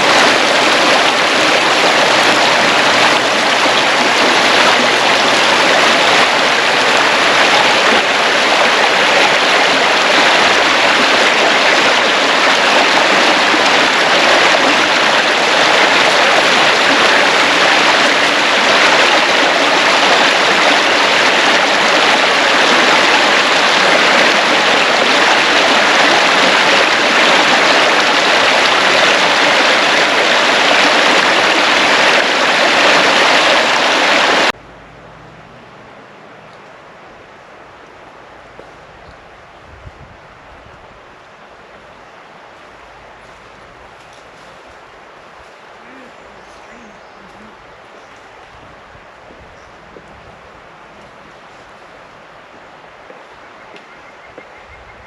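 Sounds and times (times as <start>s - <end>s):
creek water rushing: 0.0s - 54.8s.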